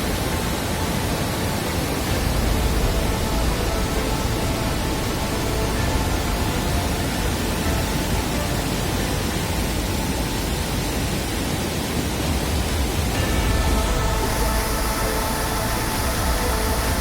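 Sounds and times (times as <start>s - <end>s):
loud rushing noise: 0.0s - 17.0s.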